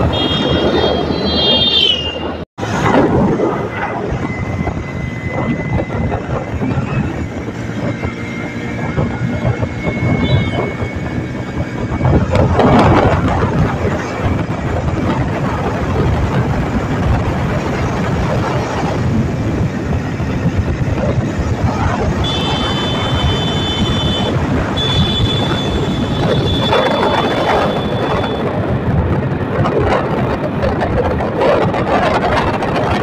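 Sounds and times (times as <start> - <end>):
motorcycle engine: 0.0 - 33.0
wind rushing over microphone: 0.0 - 33.0.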